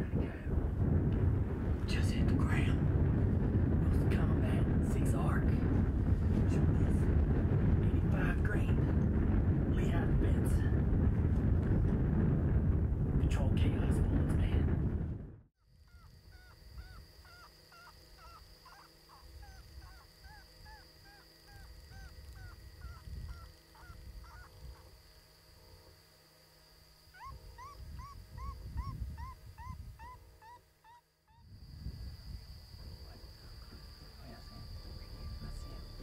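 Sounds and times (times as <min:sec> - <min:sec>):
wind rumbling on microphone: 0:00.0 - 0:17.5, 0:18.2 - 0:25.0, 0:27.2 - 0:30.6, 0:31.3 - 0:36.0.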